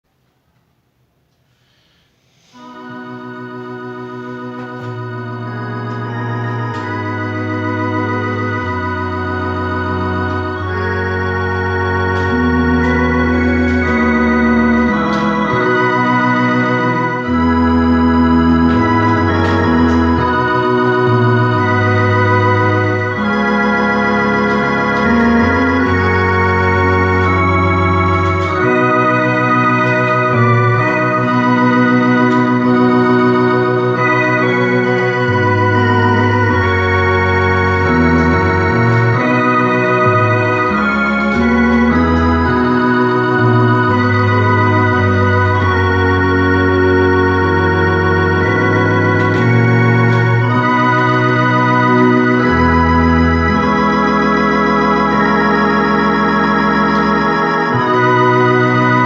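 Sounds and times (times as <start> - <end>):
electronic organ playing chords: 1.6 - 59.0
bass line: 2.6 - 59.0.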